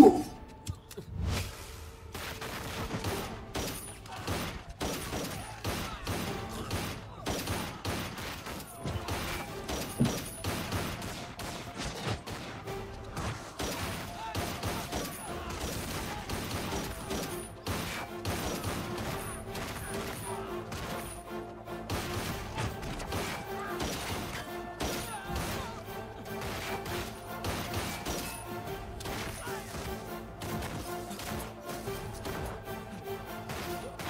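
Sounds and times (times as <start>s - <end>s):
film background score: 0.0s - 34.0s
rapid gunfire: 2.1s - 21.2s, 21.8s - 32.7s, 33.3s - 34.0s.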